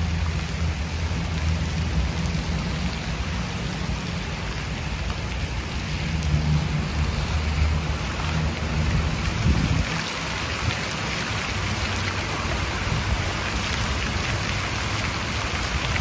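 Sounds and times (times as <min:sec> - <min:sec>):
fountain jets splashing into pool: 0:00.0 - 0:16.0.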